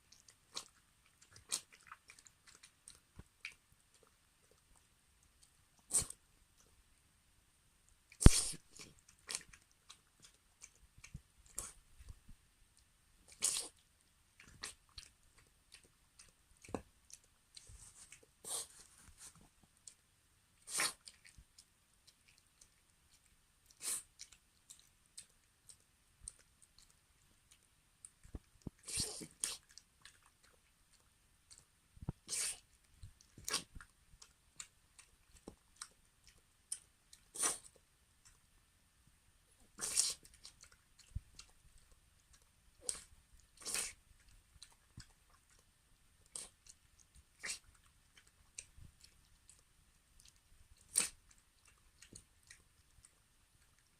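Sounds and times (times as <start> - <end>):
dog chewing and crunching food: 0.0 - 6.8, 8.1 - 20.0, 20.6 - 38.5, 39.6 - 53.9.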